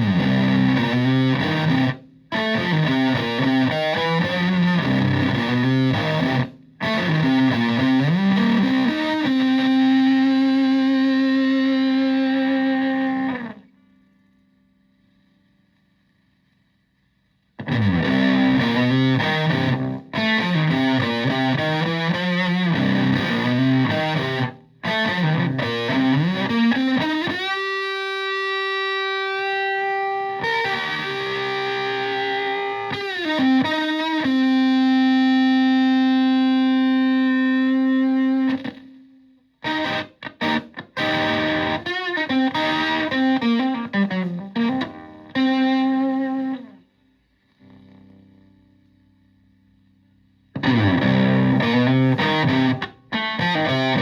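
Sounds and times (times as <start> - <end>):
fuzz electric guitar: 0.0 - 13.9, 17.6 - 46.8, 50.5 - 54.0.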